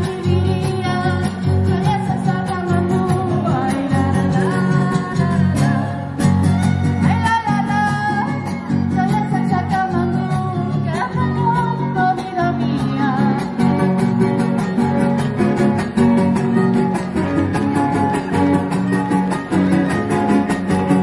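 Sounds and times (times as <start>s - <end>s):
strummed guitars: 0.0s - 21.0s.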